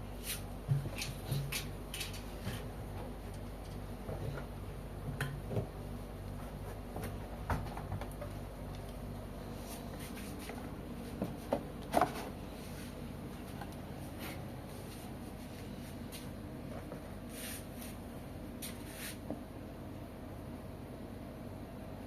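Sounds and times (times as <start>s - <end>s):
washing machine hum: 0.0s - 22.0s.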